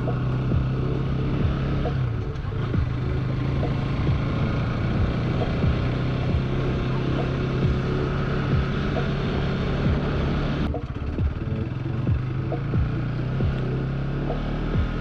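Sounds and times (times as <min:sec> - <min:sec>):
motorcycle engine running: 0:00.0 - 0:15.0
music with slow steady beat: 0:00.0 - 0:15.0
wind and road noise: 0:00.0 - 0:15.0.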